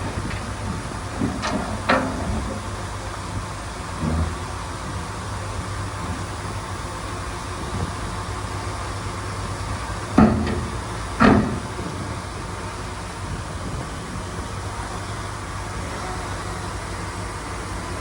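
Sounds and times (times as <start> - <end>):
heavy machinery diesel engine running: 0.0 - 18.0.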